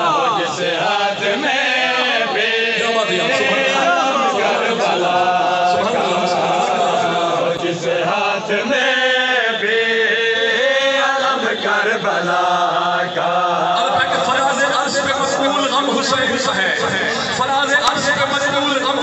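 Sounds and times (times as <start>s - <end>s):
man chanting into microphone: 0.0s - 19.0s.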